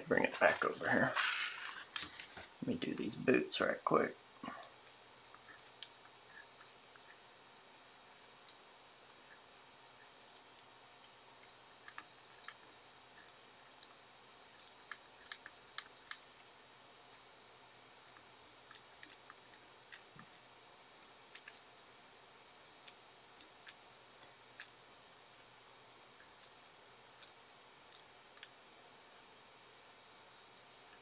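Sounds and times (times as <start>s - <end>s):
steady low hiss: 0.0s - 31.0s.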